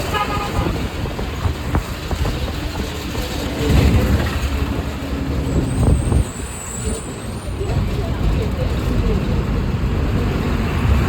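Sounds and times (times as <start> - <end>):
bus engine running: 0.0 - 11.0
road rumble: 0.0 - 11.0.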